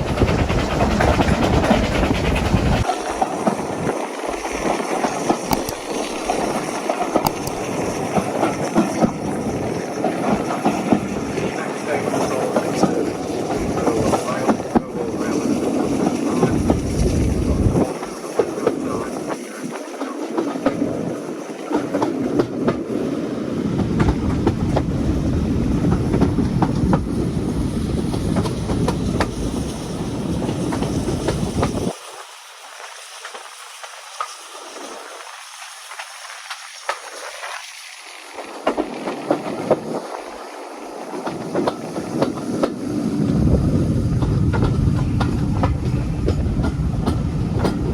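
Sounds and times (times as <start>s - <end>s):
wheels clicking over rail joints: 0.0s - 23.1s, 23.7s - 32.0s, 35.9s - 37.8s, 38.4s - 47.9s
steam hiss: 0.0s - 47.9s
steam train rumble: 0.0s - 47.9s.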